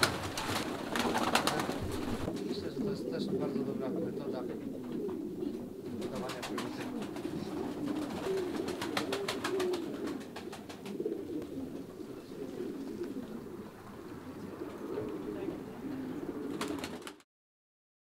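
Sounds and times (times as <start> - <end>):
pigeons cooing: 0.0 - 17.2.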